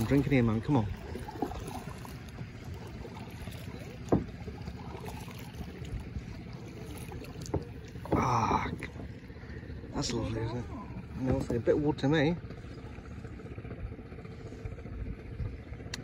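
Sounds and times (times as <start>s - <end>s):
paddle strokes in water: 0.0s - 15.9s.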